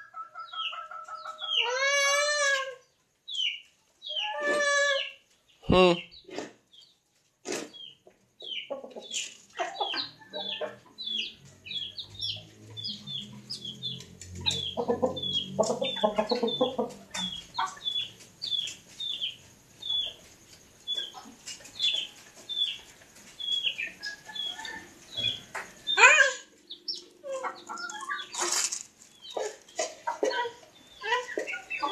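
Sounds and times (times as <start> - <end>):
chicken clucking: 0.0 - 31.9
chicks peeping: 0.0 - 31.9.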